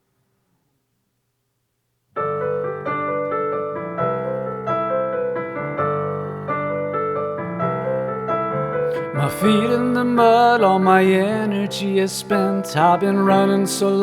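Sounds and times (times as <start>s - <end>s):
piano repeated chords: 2.2s - 14.0s.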